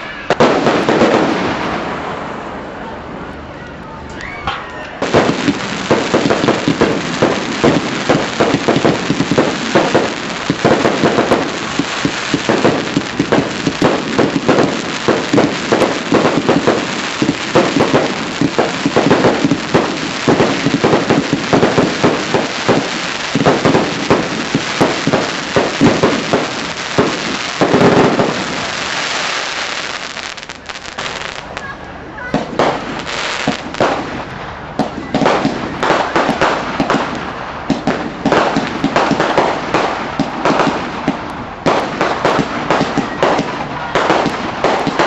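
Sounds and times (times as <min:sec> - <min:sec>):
fireworks banging and crackling: 0:00.0 - 0:03.4, 0:04.1 - 0:45.0.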